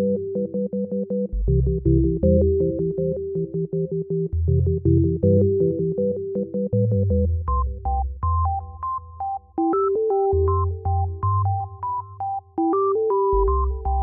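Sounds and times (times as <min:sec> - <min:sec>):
electronic keyboard melody: 0:00.0 - 0:14.0.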